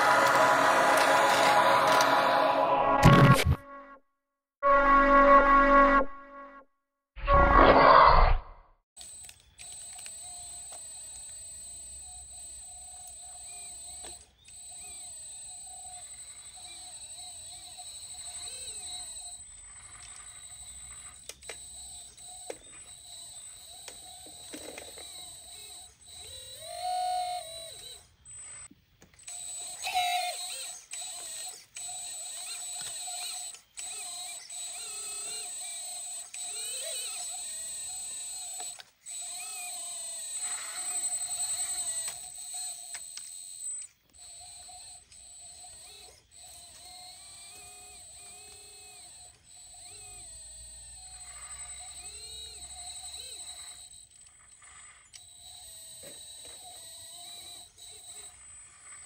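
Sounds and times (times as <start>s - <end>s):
hydraulic pump whining: 0.0s - 3.6s, 7.2s - 59.0s.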